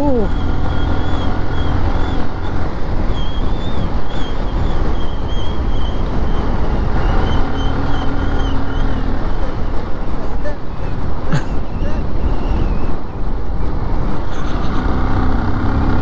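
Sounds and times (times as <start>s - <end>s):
motorcycle engine hum: 0.0s - 16.0s
wind rumble on microphone: 0.0s - 16.0s.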